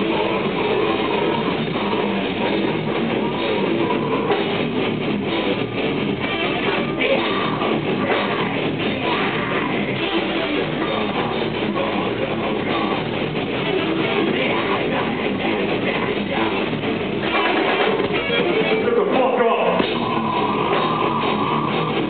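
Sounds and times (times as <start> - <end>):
vocals: 0.0 - 4.5, 6.1 - 22.0
drum kit: 0.0 - 22.0
heavy electric guitars: 0.0 - 22.0.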